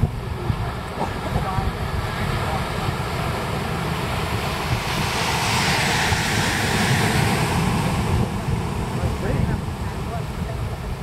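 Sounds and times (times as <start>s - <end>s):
rushing noise: 0.0s - 11.0s
wind buffeting microphone: 0.0s - 11.0s.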